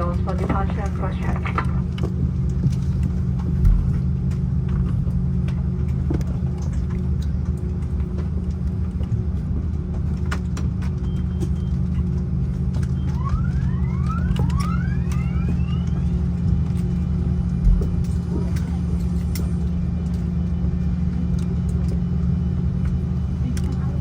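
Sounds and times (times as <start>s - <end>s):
aircraft cabin drone: 0.0s - 24.0s.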